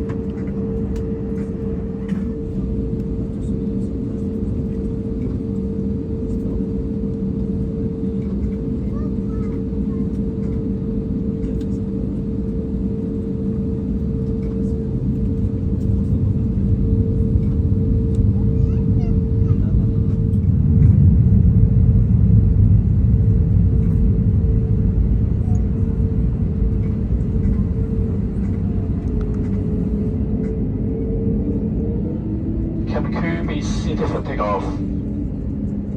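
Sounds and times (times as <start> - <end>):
aircraft engine hum: 0.0 - 35.9
low cabin rumble: 0.0 - 35.9.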